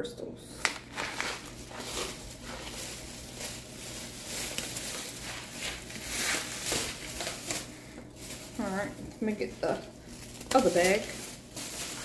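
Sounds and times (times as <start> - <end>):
plastic bags rustling and crinkling: 0.6 - 12.0.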